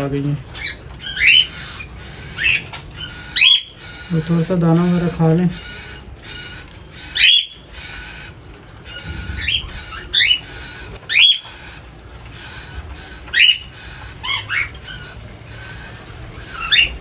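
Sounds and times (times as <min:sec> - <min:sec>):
birds chattering: 0:00.0 - 0:17.0.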